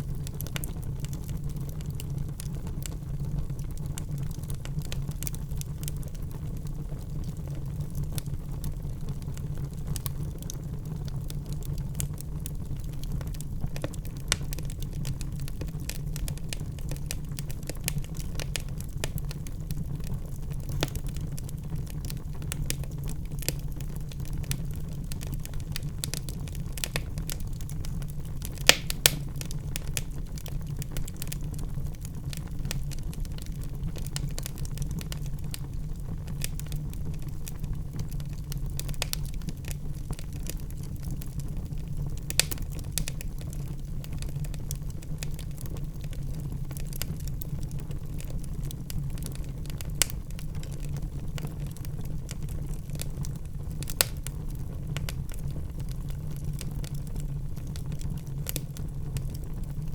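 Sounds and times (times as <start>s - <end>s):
fire crackling: 0.0s - 59.9s
fire popping: 0.0s - 59.9s
low rumble of flames: 0.0s - 59.9s.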